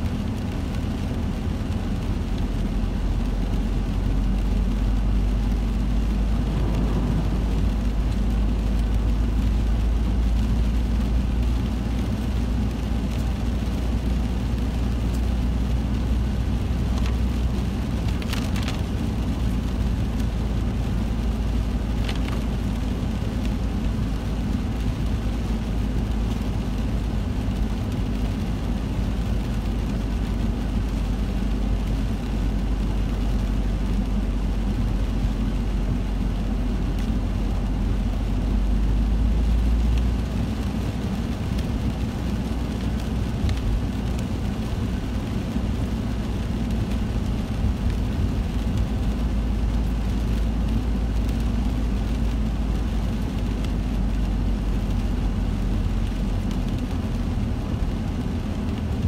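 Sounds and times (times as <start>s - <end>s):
car engine and tyre hum: 0.0s - 59.0s.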